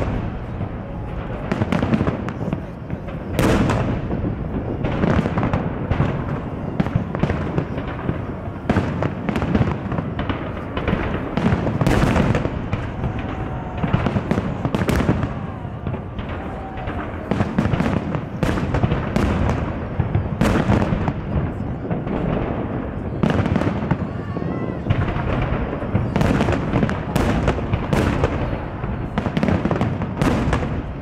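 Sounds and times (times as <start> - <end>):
firework crackle: 0.0 - 31.0
low rumble of explosions: 0.0 - 31.0.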